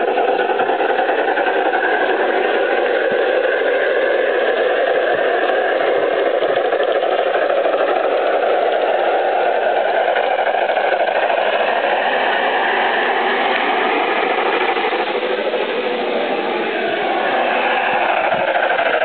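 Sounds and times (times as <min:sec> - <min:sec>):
model train motor whirring: 0:00.0 - 0:19.0.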